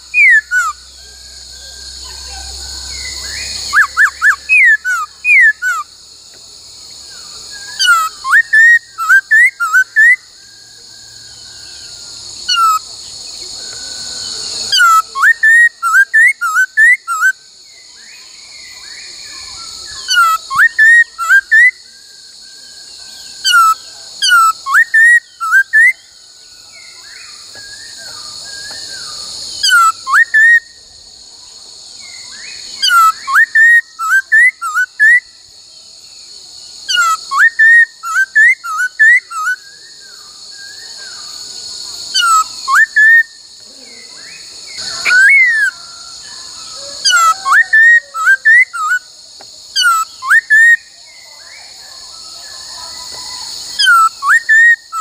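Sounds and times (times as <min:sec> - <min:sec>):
bird singing whistled phrases: 0:00.0 - 0:05.9, 0:07.3 - 0:12.8, 0:13.6 - 0:21.9, 0:23.3 - 0:26.0, 0:26.7 - 0:30.8, 0:32.0 - 0:35.4, 0:36.8 - 0:41.3, 0:42.1 - 0:43.4, 0:44.0 - 0:49.1, 0:49.7 - 0:55.0.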